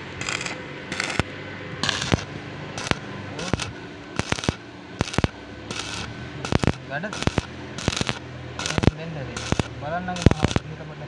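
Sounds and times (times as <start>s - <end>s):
arc welding crackle: 0.0s - 10.8s
sharp clicks: 0.2s - 10.6s.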